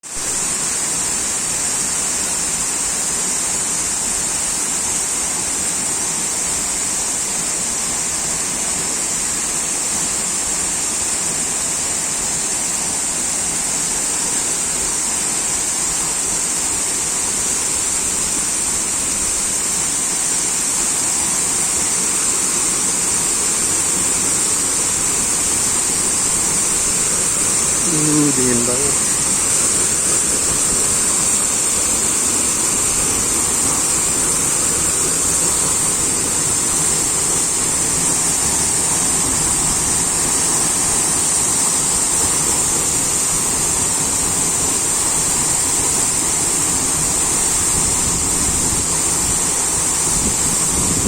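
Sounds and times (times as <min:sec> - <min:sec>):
high hiss: 0:00.0 - 0:51.0
waterfall rushing: 0:00.0 - 0:51.0.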